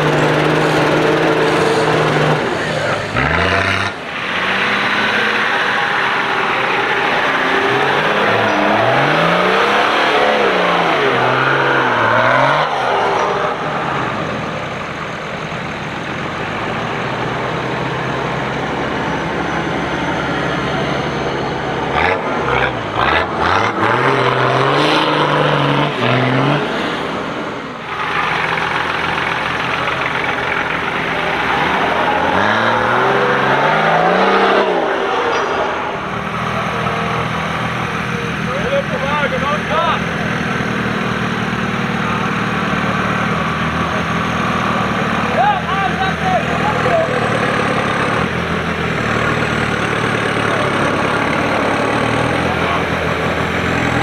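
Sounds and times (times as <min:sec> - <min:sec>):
engine throttle blips: 0:00.0 - 0:54.0
off-road engines revving: 0:00.0 - 0:54.0.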